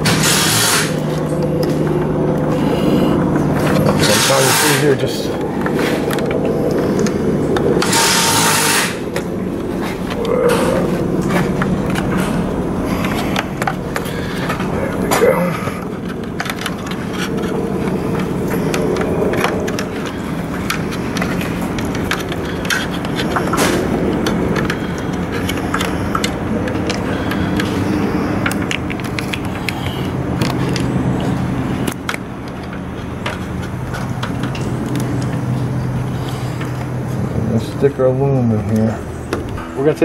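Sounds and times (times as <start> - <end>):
low mechanical hum: 0.0 - 40.0
wiring parts clicking and knocking: 0.0 - 40.0.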